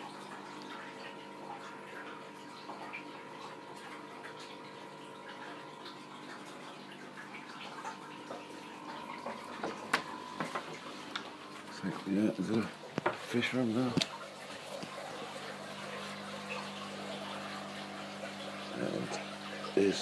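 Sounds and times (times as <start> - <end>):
water trickling and dripping: 0.0 - 20.0.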